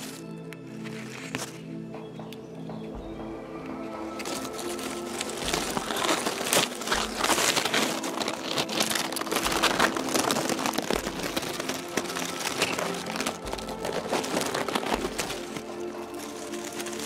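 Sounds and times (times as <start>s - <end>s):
dry leaves crackling and rustling: 0.0s - 1.9s, 3.6s - 17.0s
faint music: 0.0s - 17.0s.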